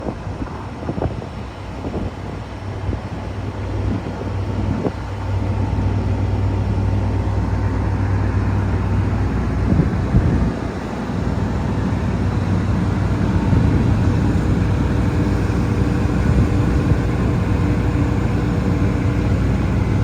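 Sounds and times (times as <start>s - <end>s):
diesel engine humming: 0.7s - 20.0s.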